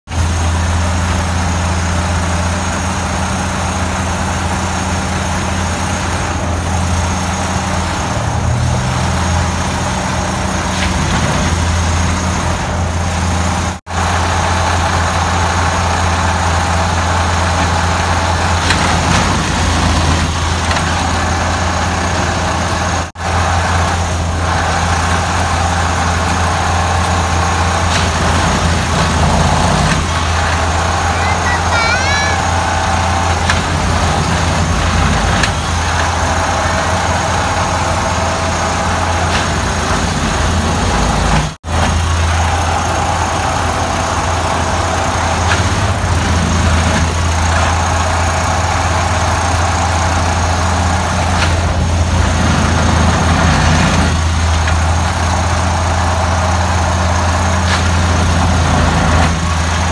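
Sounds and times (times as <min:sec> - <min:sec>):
track tamping machine droning: 0:00.1 - 0:59.9.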